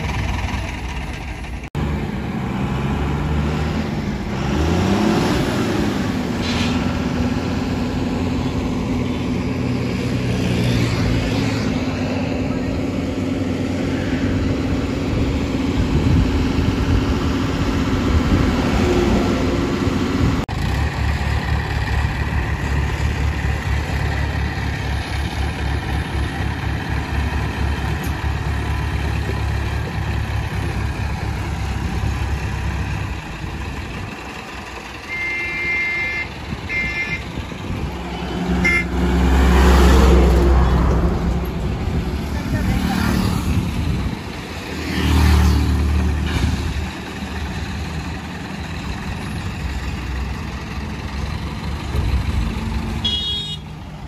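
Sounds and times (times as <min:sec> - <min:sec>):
crane diesel engine running: 0:00.0 - 0:42.8, 0:43.5 - 0:54.0
truck engine: 0:00.0 - 0:54.0.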